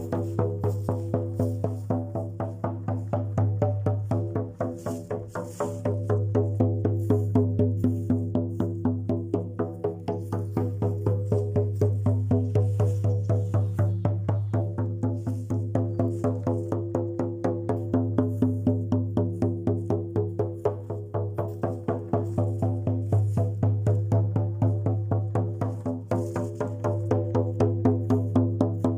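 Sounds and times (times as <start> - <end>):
hand drum beaten fast: 0.0 - 28.9.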